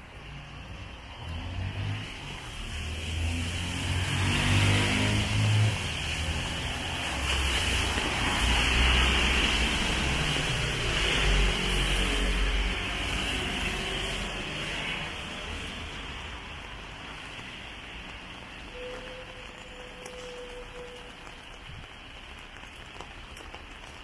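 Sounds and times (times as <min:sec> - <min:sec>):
tyres hissing on wet road: 0:00.0 - 0:24.0.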